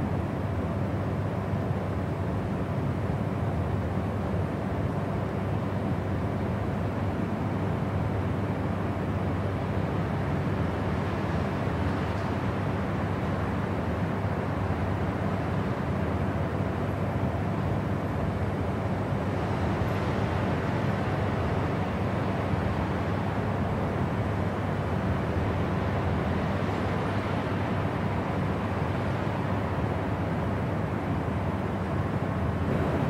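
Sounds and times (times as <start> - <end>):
jet airliner cabin noise: 0.0 - 33.0.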